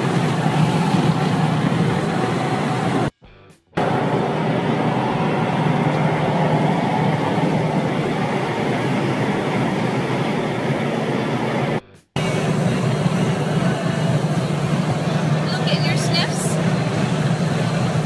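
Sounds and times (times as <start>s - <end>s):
road and wind noise: 0.0s - 3.1s, 3.8s - 18.0s.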